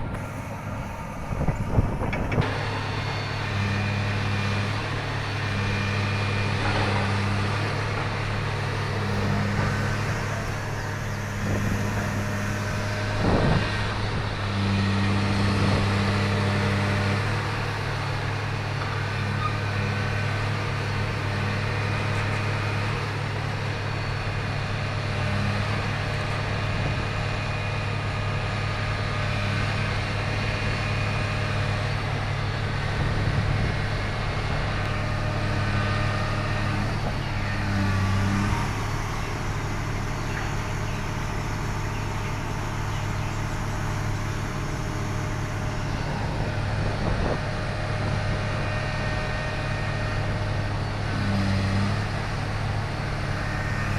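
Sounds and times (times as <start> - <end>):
boat diesel engine drone: 0.0 - 53.9.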